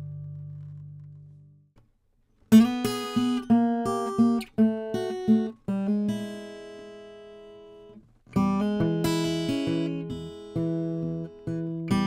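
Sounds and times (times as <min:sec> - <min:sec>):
fingerpicked acoustic guitar: 0:00.0 - 0:12.0.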